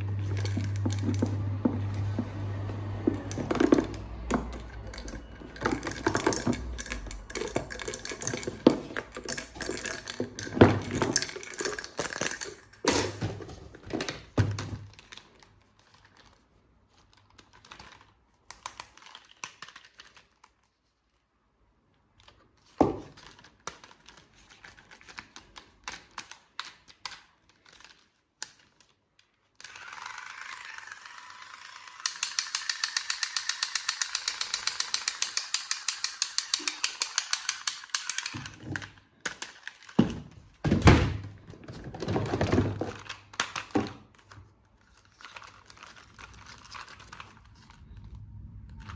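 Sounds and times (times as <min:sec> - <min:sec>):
plastic toy parts clattering: 0:00.0 - 0:16.4, 0:22.2 - 0:48.1.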